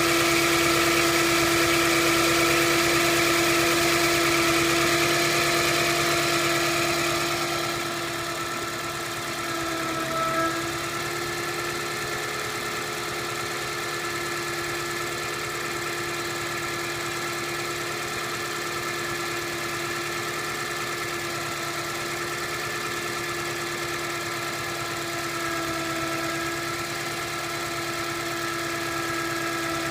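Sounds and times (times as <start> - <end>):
engine low hum: 0.0 - 29.9.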